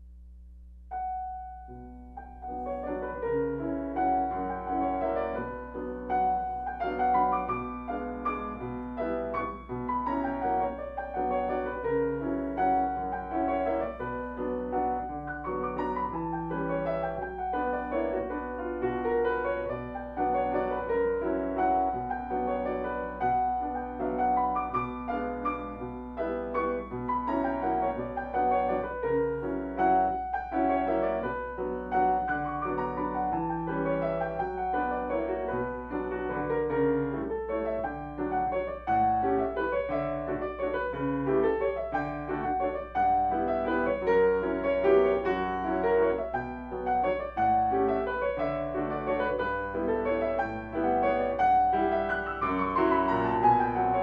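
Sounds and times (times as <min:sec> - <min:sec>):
solo classical piano piece: 0:00.0 - 0:54.0.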